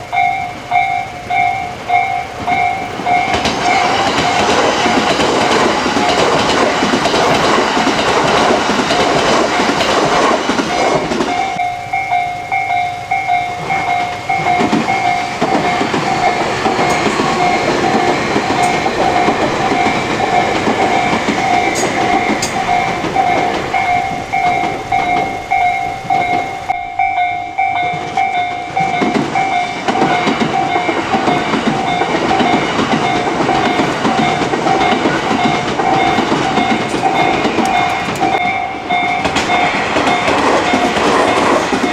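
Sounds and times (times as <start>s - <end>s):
level-crossing alarm ringing: 0.0s - 41.9s
train wheels clattering over rails: 0.0s - 41.9s.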